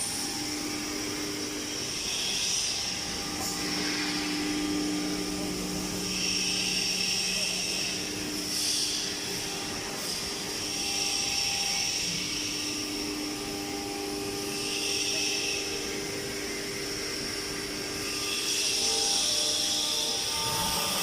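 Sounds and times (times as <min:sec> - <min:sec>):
router spindle whine: 0:00.0 - 0:21.0.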